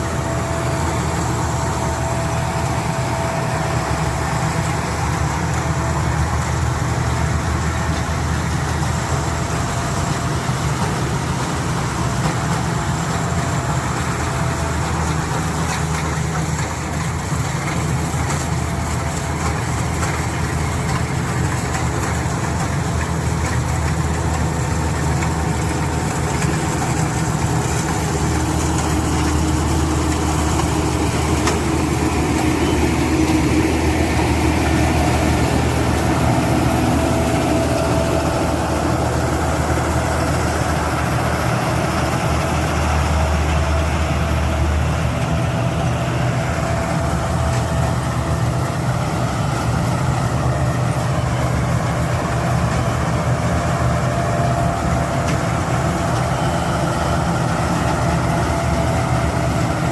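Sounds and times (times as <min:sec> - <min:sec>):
combine harvester engine humming: 0:00.0 - 0:59.9.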